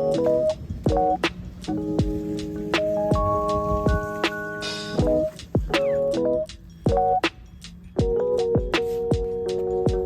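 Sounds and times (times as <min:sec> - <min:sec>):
keyboard chords: 0:00.0 - 0:10.0
steady drum beat: 0:00.0 - 0:10.0.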